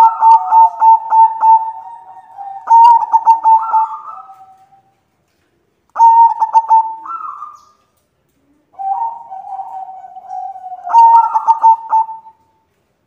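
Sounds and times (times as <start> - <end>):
dove cooing: 0.0 - 4.9, 6.0 - 7.8, 8.5 - 12.5.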